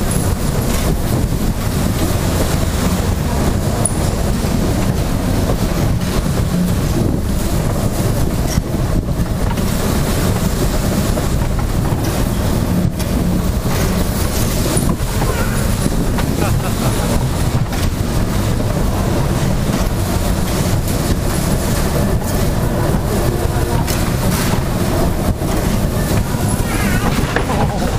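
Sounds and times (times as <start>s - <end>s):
ride machinery rumble: 0.0s - 27.9s
wind rumble on microphone: 0.0s - 27.9s.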